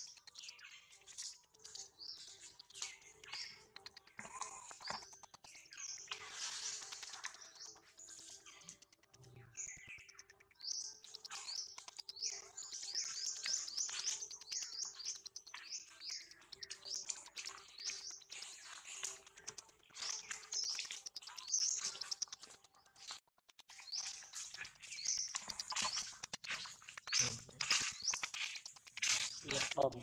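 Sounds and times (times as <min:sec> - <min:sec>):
high-pitched chirping calls: 0:00.0 - 0:30.0.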